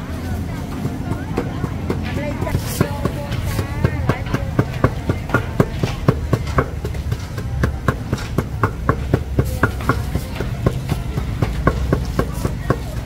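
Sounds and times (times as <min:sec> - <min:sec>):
low background rumble: 0:00.0 - 0:13.0
pestle pounding in mortar: 0:00.0 - 0:13.0.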